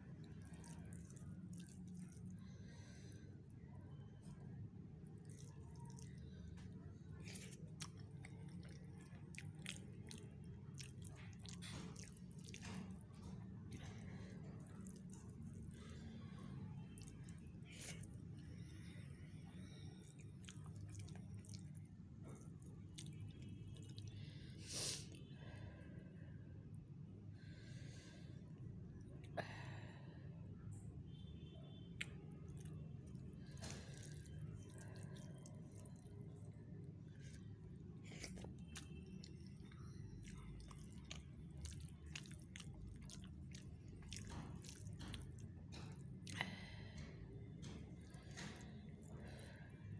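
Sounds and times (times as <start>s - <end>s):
low steady hum: 0.0s - 49.9s
chewing: 0.1s - 3.2s, 4.2s - 19.0s, 19.6s - 24.5s, 32.0s - 49.7s.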